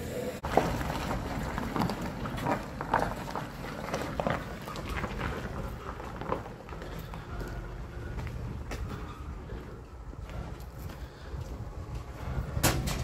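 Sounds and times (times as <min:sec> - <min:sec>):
low truck engine running: 0:00.0 - 0:13.0.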